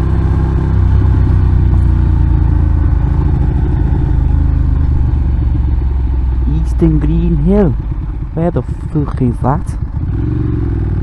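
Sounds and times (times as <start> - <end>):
motorcycle engine riding: 0.0 - 11.0.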